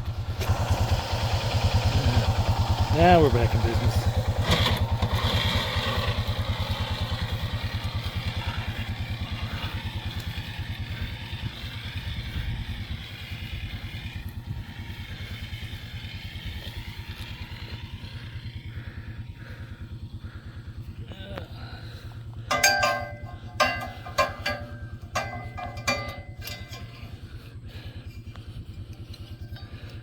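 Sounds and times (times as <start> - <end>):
small engine puttering: 0.0 - 30.0.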